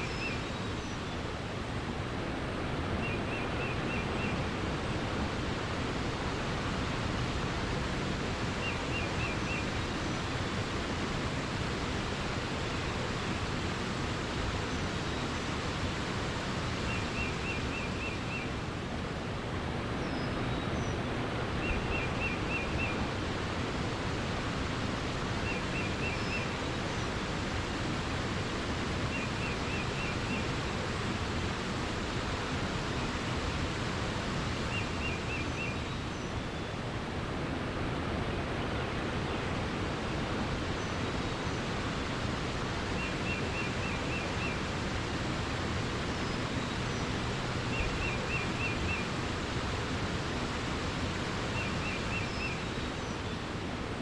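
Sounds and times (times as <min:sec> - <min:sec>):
songbird singing: 0:00.0 - 0:01.4, 0:02.9 - 0:04.5, 0:06.2 - 0:18.7, 0:20.0 - 0:23.2, 0:24.7 - 0:36.9, 0:40.6 - 0:53.5
rushing water: 0:00.0 - 0:54.0.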